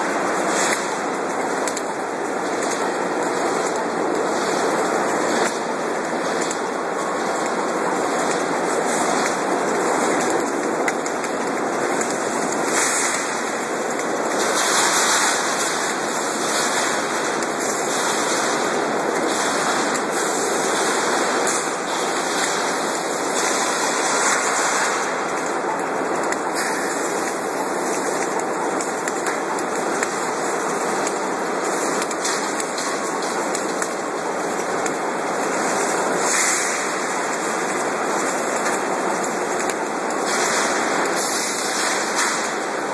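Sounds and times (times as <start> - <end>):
welding machine hissing: 0.0 - 42.9.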